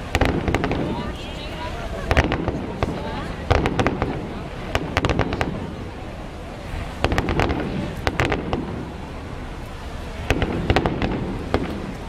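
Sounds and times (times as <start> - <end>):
fireworks cracks and bangs: 0.0 - 6.0, 6.6 - 9.1, 10.0 - 12.0
low rumble of explosions: 0.0 - 12.0.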